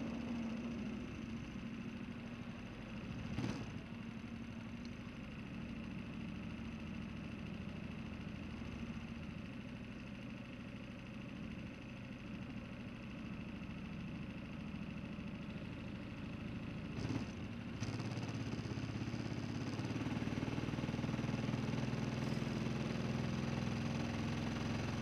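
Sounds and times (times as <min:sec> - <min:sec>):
go-kart engine idling: 0:00.0 - 0:25.0.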